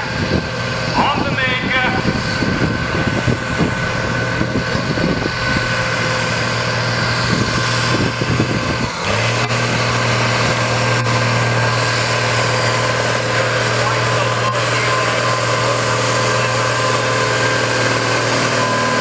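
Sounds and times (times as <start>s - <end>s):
tractor engine drone under load: 0.0s - 19.0s.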